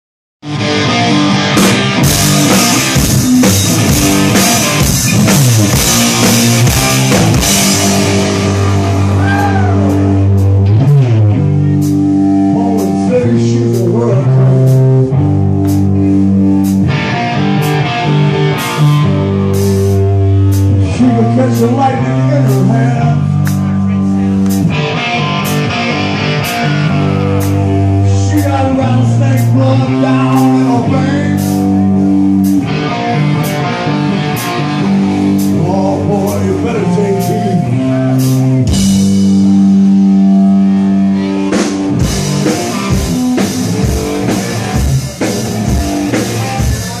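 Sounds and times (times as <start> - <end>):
drum kit: 0.4 - 47.0
electric guitar chords: 0.4 - 47.0.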